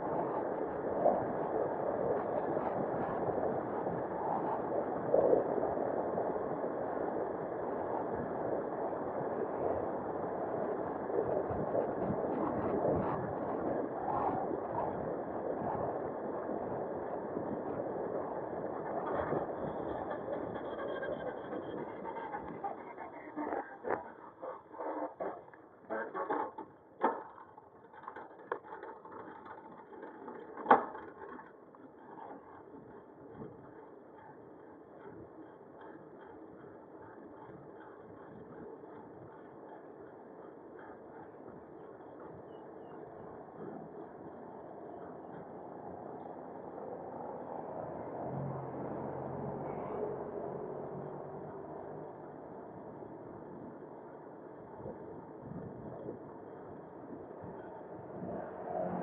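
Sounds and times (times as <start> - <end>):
wind rushing on microphone: 0.0 - 26.4, 32.1 - 59.0
bicycle rattling rumble: 0.0 - 59.0
road noise: 0.0 - 59.0.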